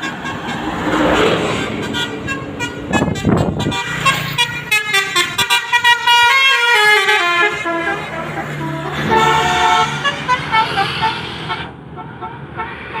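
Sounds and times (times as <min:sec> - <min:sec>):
multi-tone bus horn melody: 0:00.0 - 0:13.0.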